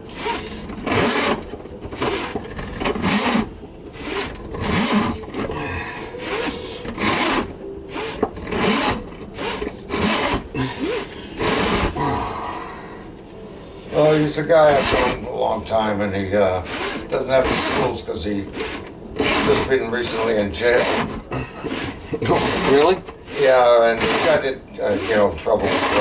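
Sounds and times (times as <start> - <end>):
drain snake cable scraping pipe: 0.0 - 12.0, 13.9 - 26.0.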